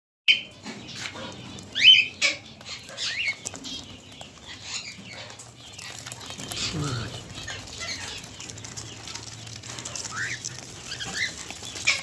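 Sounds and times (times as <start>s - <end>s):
cockatiels chirping: 0.3s - 12.0s.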